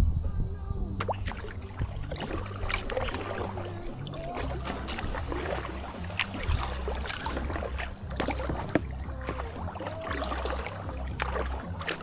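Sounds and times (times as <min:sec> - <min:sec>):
water splashing against hull: 0:00.0 - 0:12.0
wind rumbling on microphone: 0:00.0 - 0:12.0.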